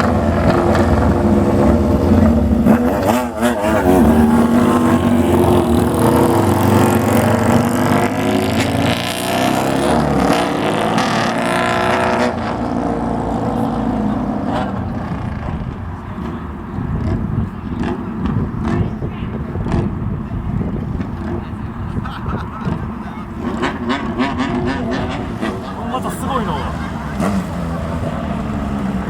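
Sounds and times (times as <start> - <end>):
motorcycle revving: 0.0 - 29.0
motorcycles riding off: 0.0 - 29.0.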